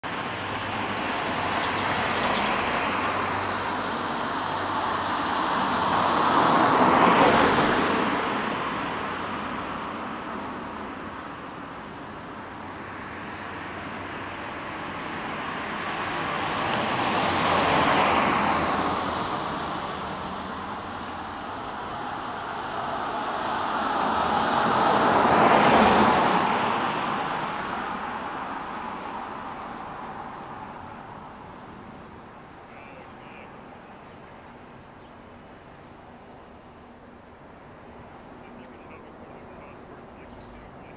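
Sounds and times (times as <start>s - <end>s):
road noise hiss: 0.0s - 40.9s
vehicles passing: 0.0s - 40.9s.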